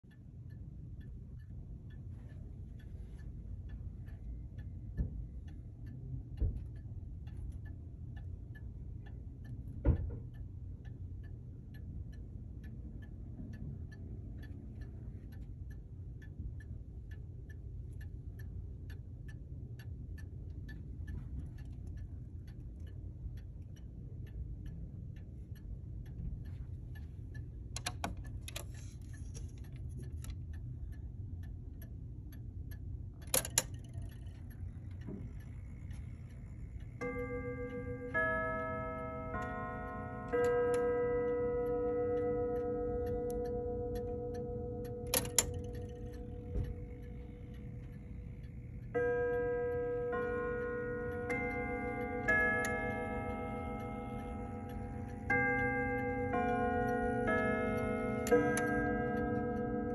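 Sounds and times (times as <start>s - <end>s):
clock ticking: 0.0s - 59.9s
low hum: 0.0s - 59.9s.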